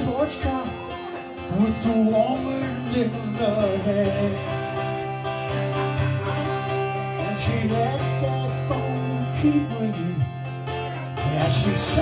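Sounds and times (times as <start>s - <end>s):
man singing: 0.0s - 12.0s
strummed acoustic guitar: 0.0s - 12.0s.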